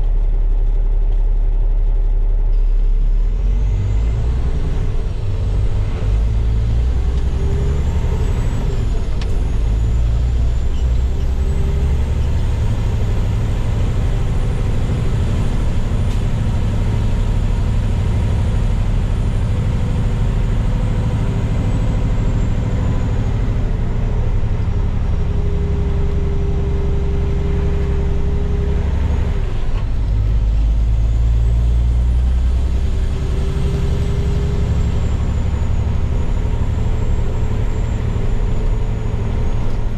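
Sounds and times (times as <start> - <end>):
diesel dump truck engine: 0.0 - 39.9.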